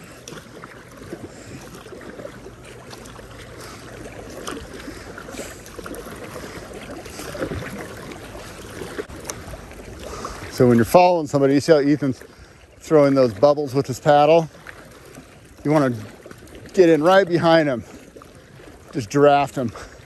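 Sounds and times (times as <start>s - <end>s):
paddle strokes splashing: 0.0s - 20.0s
water washing along hull: 0.0s - 20.0s.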